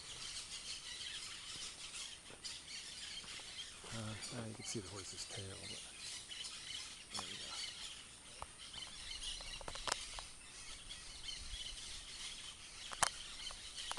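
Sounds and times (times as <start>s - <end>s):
birds twittering: 0.0s - 13.9s.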